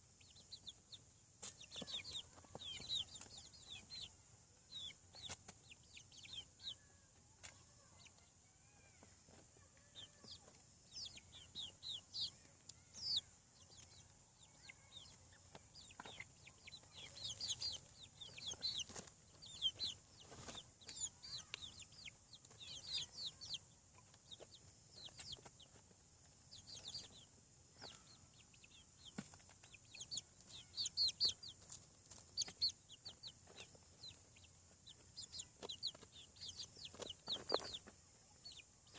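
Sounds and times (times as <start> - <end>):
chickens peeping: 0.0 - 38.9.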